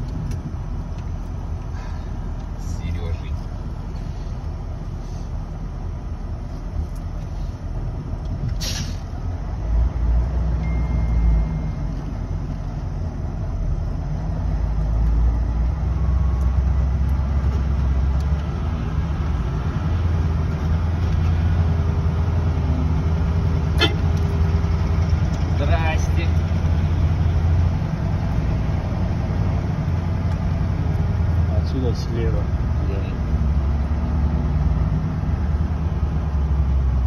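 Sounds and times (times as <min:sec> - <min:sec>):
truck engine rumble: 0:00.0 - 0:37.0.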